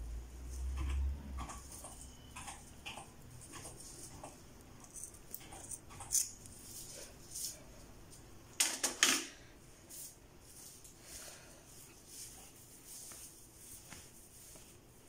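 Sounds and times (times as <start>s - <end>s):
wig being combed rustling: 0.5s - 8.3s, 9.7s - 15.0s.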